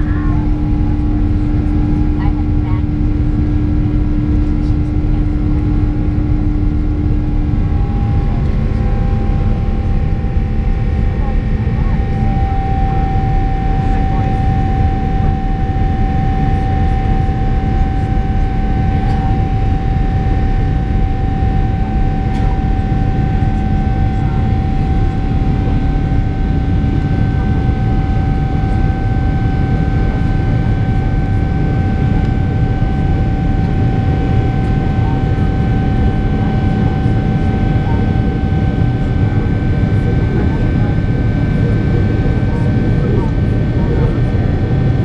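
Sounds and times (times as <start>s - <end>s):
jet engine rumble and whine: 0.0s - 45.0s.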